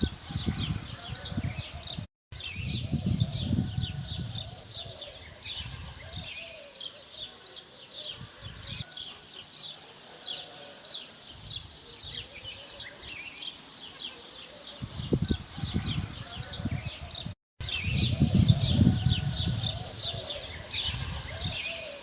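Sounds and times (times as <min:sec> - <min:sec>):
small birds chirping: 0:01.3 - 0:22.0.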